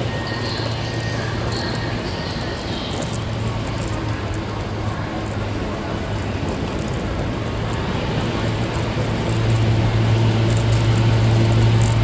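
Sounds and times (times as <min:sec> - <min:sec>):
low vehicle hum: 0:00.0 - 0:12.0
traffic: 0:00.0 - 0:12.0.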